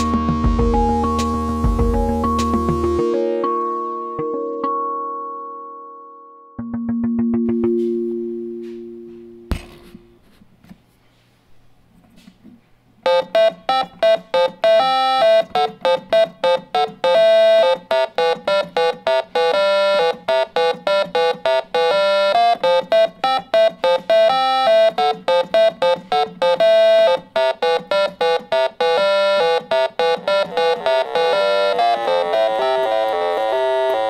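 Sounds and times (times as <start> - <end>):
synthesizer melody of short notes: 0.0 - 9.5, 13.1 - 34.0.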